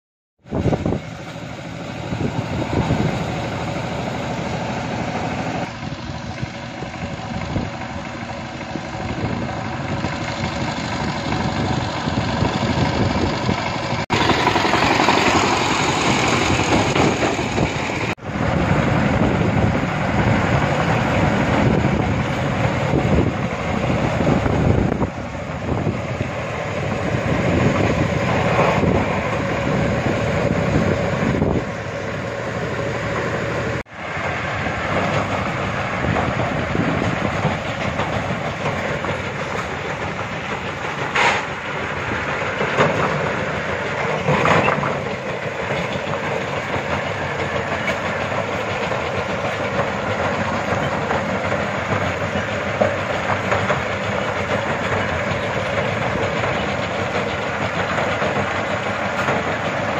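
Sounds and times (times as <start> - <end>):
diesel engine running: 0.4 - 59.9
trailer rattling: 0.4 - 59.9.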